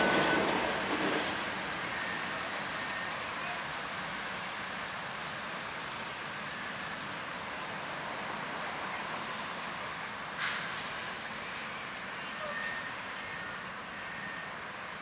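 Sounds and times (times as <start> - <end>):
distant train rolling: 0.0 - 15.0.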